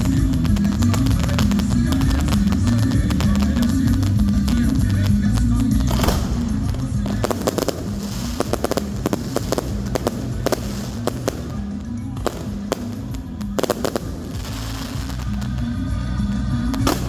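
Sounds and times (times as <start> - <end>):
fireworks banging and crackling: 0.0 - 17.0
show music: 0.0 - 17.0.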